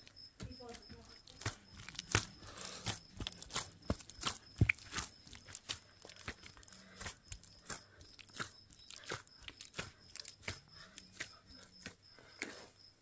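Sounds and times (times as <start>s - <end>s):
person chewing crunchy food: 1.0s - 13.0s.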